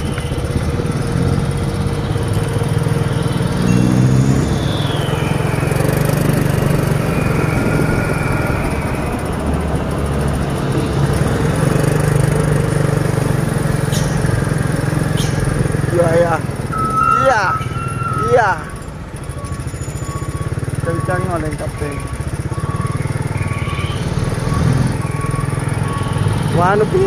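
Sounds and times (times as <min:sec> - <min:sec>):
truck diesel engines running: 0:00.0 - 0:27.0.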